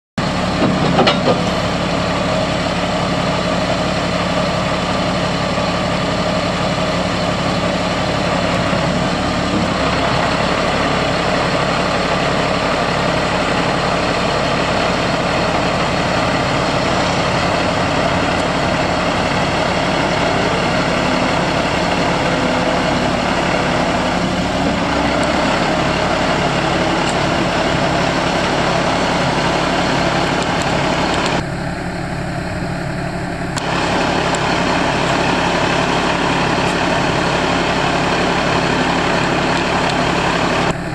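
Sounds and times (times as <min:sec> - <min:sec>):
diesel truck engine idling: 0:00.2 - 0:40.9.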